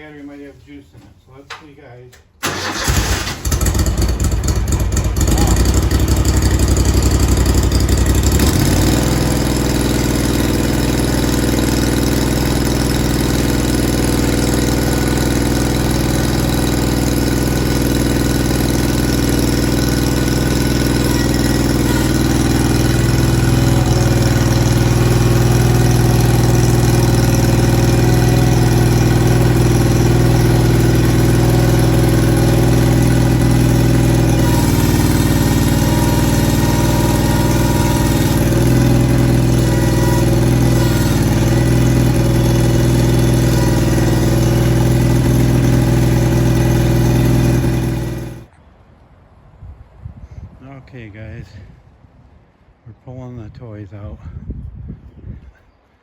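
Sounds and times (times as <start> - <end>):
garden tractor engine running: 2.4 - 48.5.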